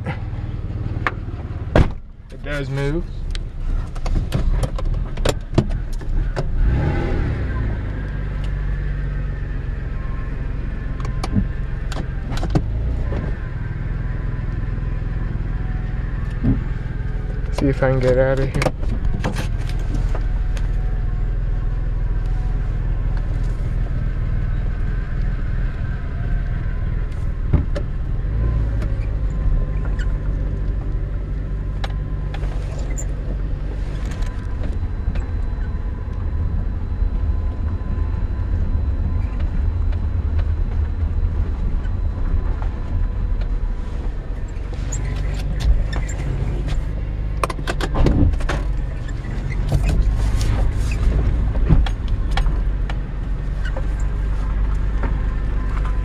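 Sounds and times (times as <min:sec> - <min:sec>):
car engine drone from cabin: 0:00.0 - 0:56.0.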